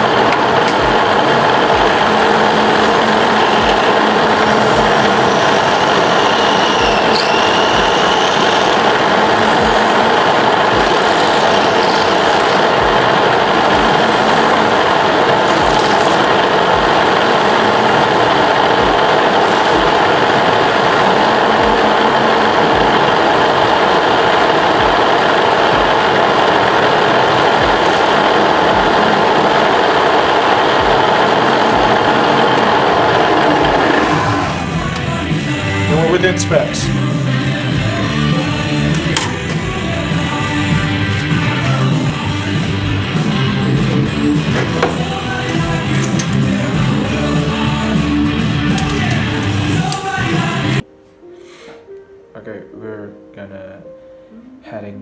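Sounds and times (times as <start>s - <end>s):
machine whirring: 0.0s - 50.8s.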